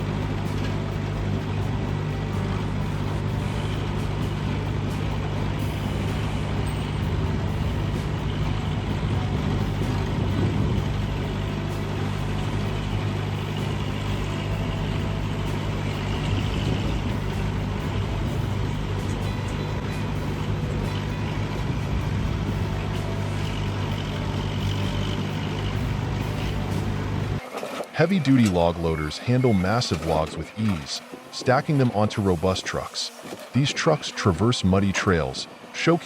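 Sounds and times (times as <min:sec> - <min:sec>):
heavy machine engine running: 0:00.0 - 0:36.0.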